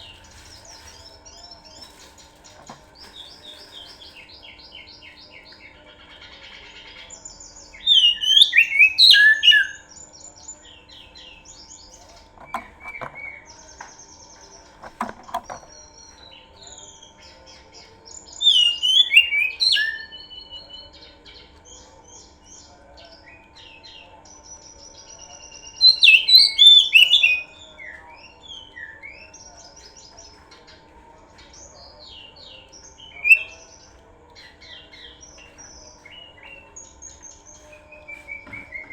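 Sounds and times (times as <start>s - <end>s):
bird singing whistles and chatter: 0.0s - 30.9s, 31.5s - 38.9s
soft bird chirps: 0.0s - 38.9s.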